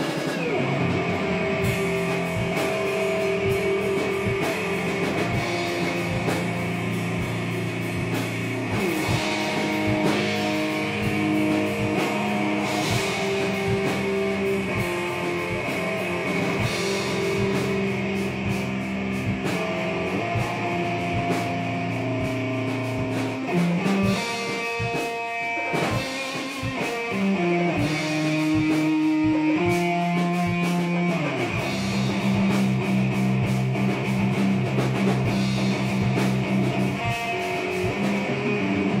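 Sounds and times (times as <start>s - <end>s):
drum kit steady beat: 0.0s - 39.0s
electric guitar sustained notes: 0.0s - 39.0s.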